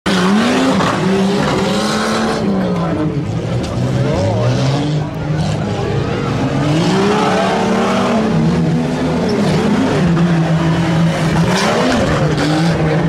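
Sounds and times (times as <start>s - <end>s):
truck engine revving: 0.1s - 13.0s.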